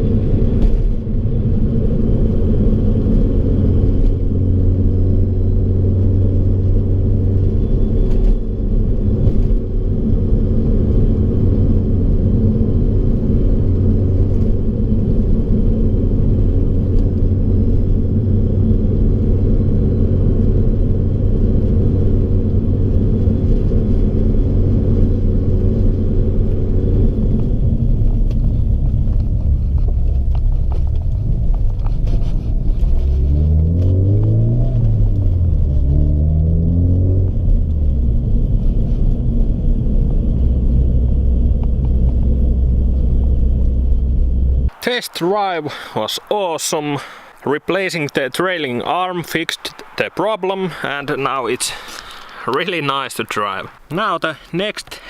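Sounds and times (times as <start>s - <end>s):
car engine drone: 0.0s - 55.0s
road noise: 0.0s - 55.0s.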